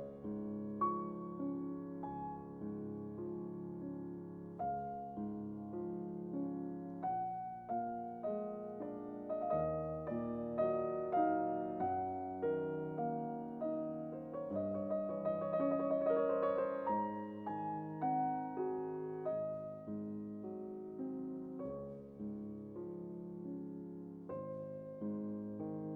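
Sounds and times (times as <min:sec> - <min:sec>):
gentle piano music: 0:00.0 - 0:25.9.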